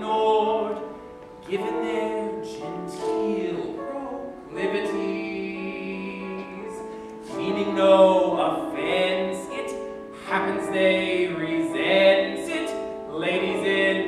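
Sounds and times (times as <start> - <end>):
instrumental accompaniment: 0.0 - 14.0
man singing operatically: 0.0 - 14.0.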